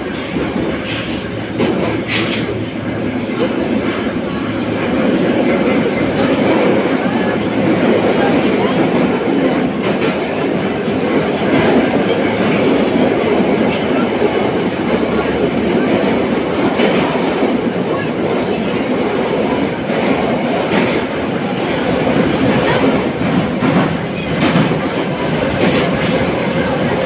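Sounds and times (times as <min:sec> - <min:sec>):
metro car wheels rumbling: 0:00.0 - 0:27.0.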